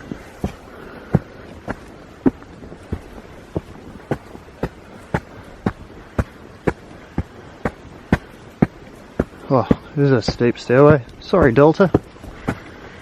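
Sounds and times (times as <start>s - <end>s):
footsteps on hard track: 0.0s - 12.8s.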